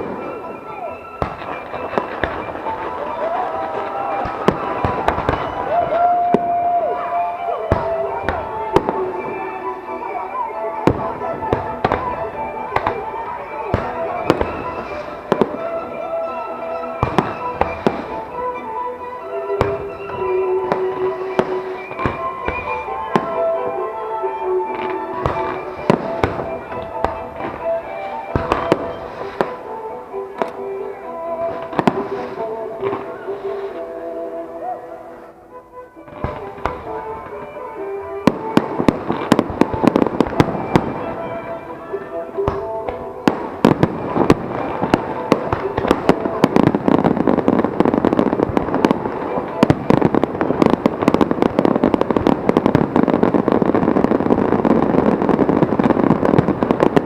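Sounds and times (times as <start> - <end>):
fireworks bangs: 0.0 - 35.4, 36.0 - 57.0
music with sustained notes: 0.0 - 57.0.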